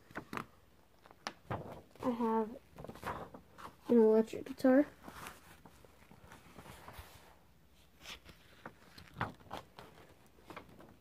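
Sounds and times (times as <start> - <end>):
page turning: 0.0 - 2.1, 2.7 - 4.0, 5.0 - 11.0
paper rustling: 0.0 - 11.0.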